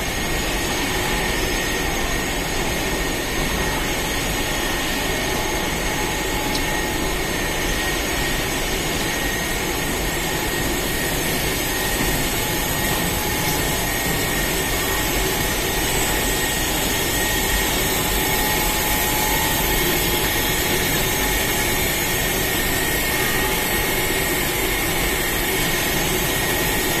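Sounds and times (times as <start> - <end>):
machinery whirring: 0.0 - 27.0.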